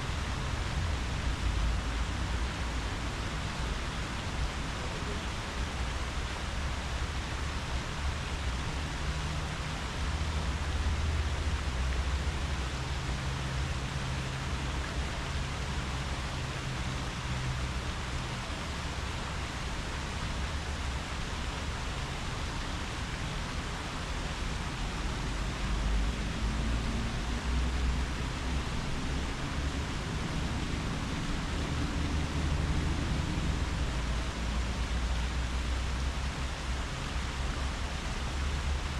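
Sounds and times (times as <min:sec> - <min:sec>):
wind rustling tree leaves: 0:00.0 - 0:38.9.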